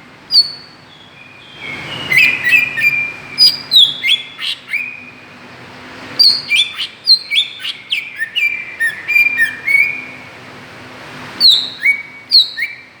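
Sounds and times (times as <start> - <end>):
bird song with falling whistles: 0.3 - 5.2, 6.2 - 10.2, 11.4 - 13.0.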